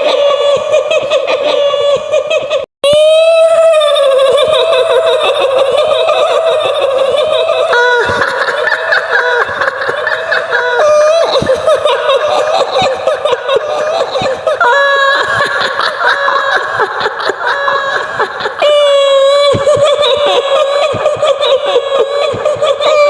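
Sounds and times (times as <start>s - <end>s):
shrill female cackling laughter: 0.0s - 23.0s.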